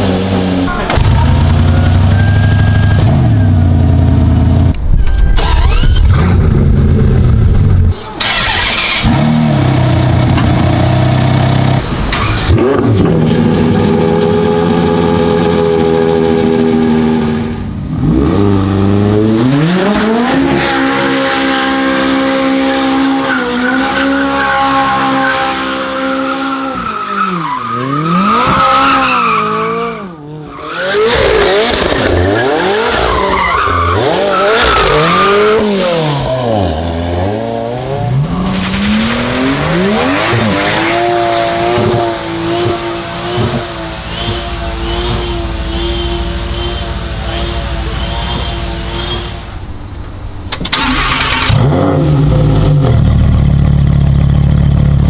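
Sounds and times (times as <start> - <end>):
high-revving car engine: 5.4 - 49.4, 50.6 - 55.0.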